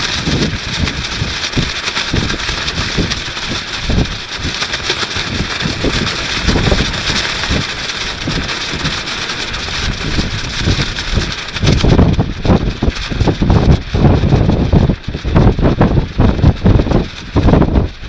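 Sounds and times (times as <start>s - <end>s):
plastic rainsuit flapping: 0.0s - 18.0s
wind buffeting microphone: 0.0s - 18.0s.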